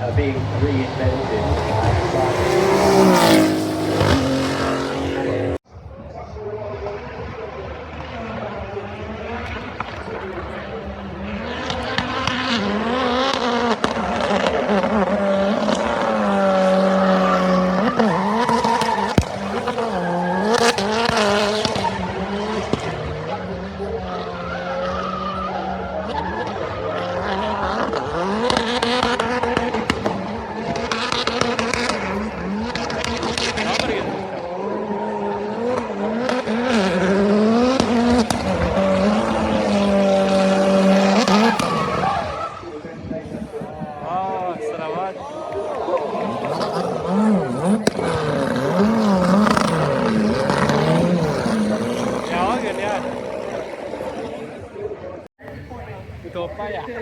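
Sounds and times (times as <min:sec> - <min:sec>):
car engine revving: 0:00.0 - 0:05.7, 0:06.3 - 0:55.3.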